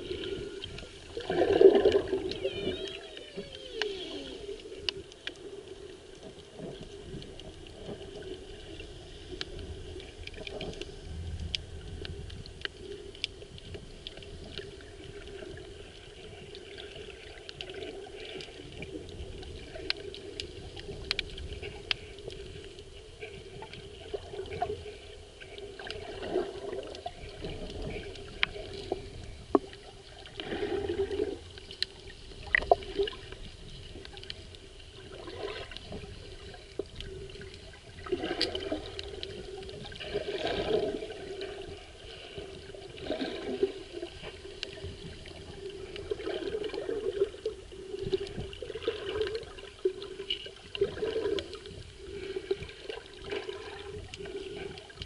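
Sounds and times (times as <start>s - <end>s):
underwater sloshing and gurgling: 0.0s - 55.0s.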